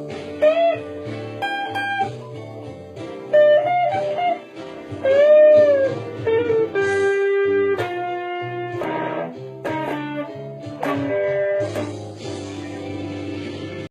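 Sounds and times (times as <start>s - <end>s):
electric guitar blues lead: 0.0s - 13.9s
strummed guitar chord ringing: 0.0s - 13.9s.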